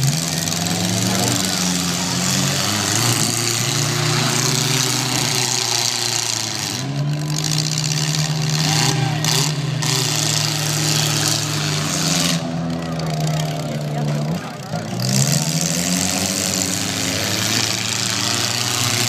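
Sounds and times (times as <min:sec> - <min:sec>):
car engines running: 0:00.0 - 0:19.0.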